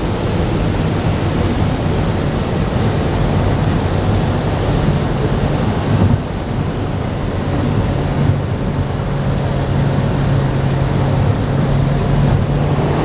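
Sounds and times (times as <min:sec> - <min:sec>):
car engine hum: 0:00.0 - 0:13.0
road and wind noise: 0:00.0 - 0:13.0.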